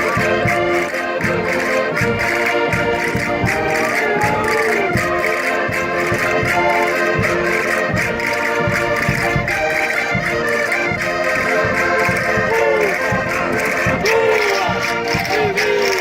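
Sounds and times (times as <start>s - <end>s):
concertinas playing folk dance tune: 0.0s - 16.0s.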